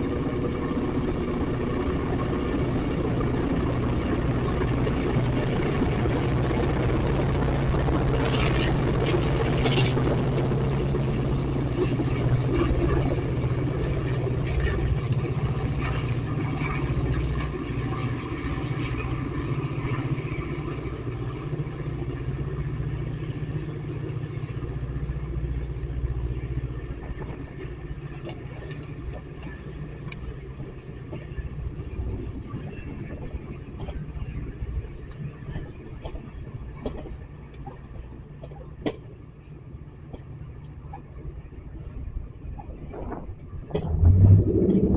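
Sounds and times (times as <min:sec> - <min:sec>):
train engine drone and rumble: 0:00.0 - 0:44.9.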